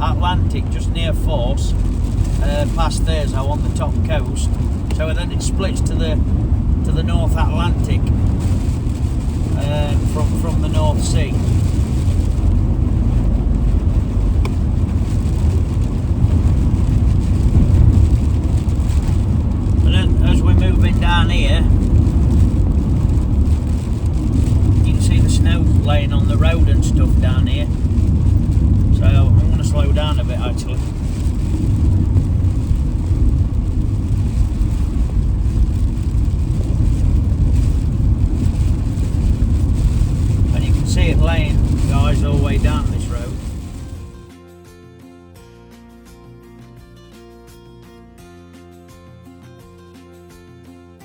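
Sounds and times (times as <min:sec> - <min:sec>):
van engine and road noise: 0:00.0 - 0:44.4.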